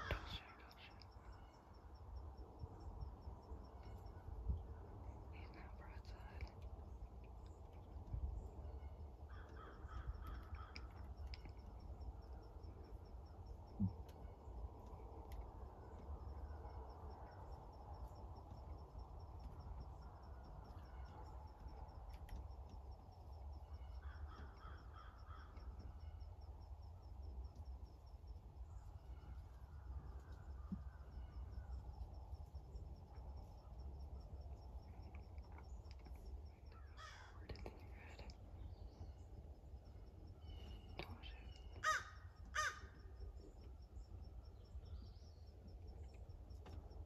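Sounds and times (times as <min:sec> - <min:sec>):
high insect chirping: 0:00.0 - 0:47.0.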